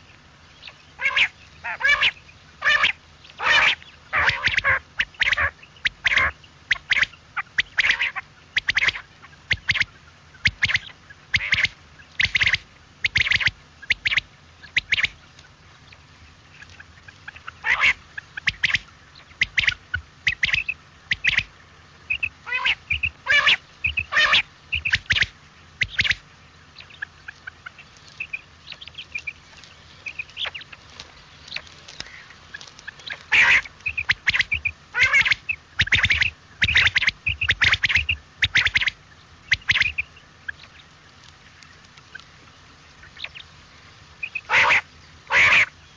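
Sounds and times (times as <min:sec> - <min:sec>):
quail calling: 0:00.0 - 0:45.9.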